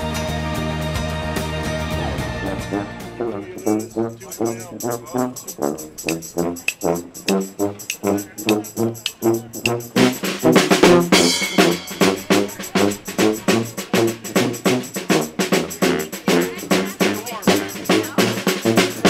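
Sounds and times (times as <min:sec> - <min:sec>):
drums: 0:00.0 - 0:03.2, 0:06.0 - 0:19.0
brass band playing: 0:02.0 - 0:19.0
sousaphone bass line: 0:03.2 - 0:19.0.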